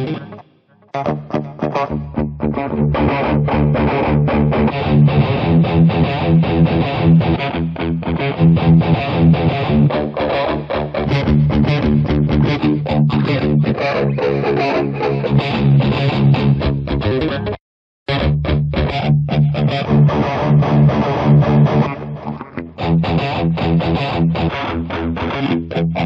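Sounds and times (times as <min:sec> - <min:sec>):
electric guitar riff: 0:00.0 - 0:26.0.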